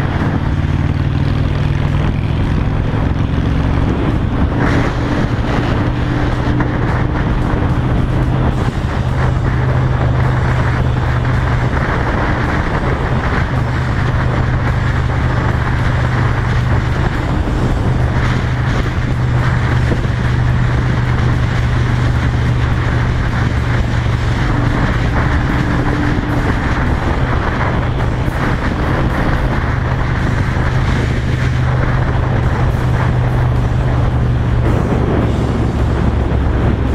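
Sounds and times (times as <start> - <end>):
motorcycle engine rumbling: 0.0 - 36.9.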